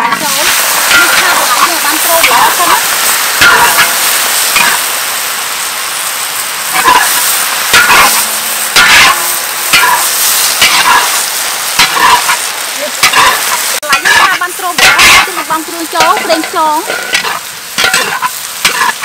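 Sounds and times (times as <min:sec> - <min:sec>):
metal spatula scraping wok: 0:00.0 - 0:05.1, 0:06.7 - 0:19.0
greens sizzling in a wok: 0:00.0 - 0:19.0.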